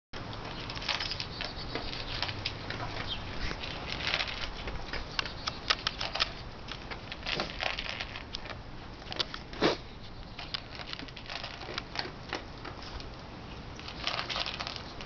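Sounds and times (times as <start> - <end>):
dog crunching food: 0.6 - 9.8, 10.4 - 13.1, 13.8 - 15.0.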